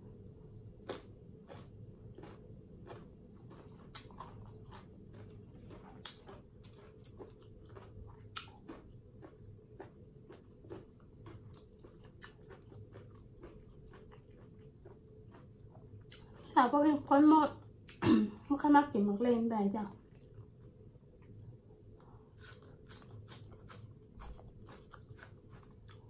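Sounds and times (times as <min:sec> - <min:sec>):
chewing with wet clicks: 0:00.8 - 0:16.6, 0:19.9 - 0:21.4, 0:22.0 - 0:26.0.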